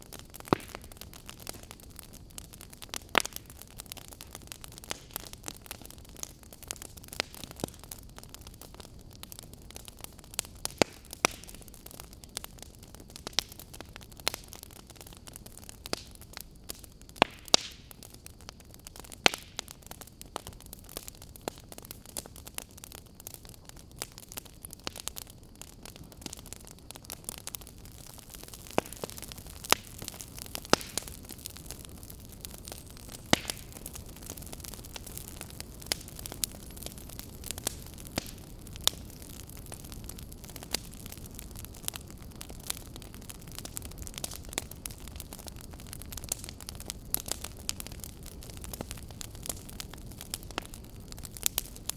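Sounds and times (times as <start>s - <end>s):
firewood crackling and popping: 0.0s - 51.9s.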